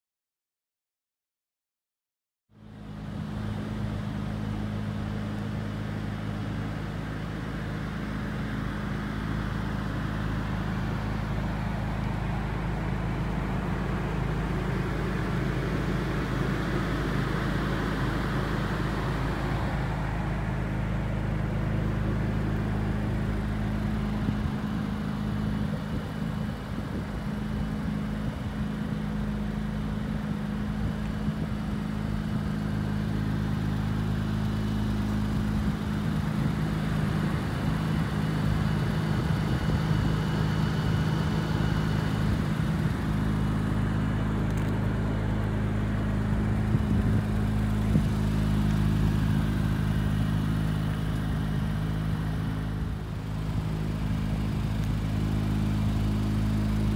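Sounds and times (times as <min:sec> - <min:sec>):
car engine idling: 0:02.5 - 0:56.9.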